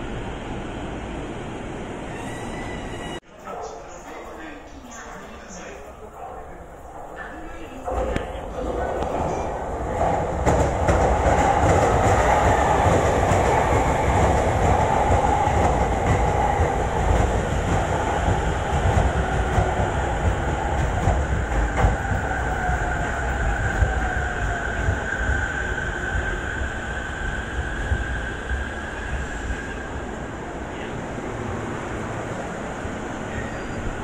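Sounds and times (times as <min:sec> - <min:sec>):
rail and wheel noise: 0:00.0 - 0:34.0.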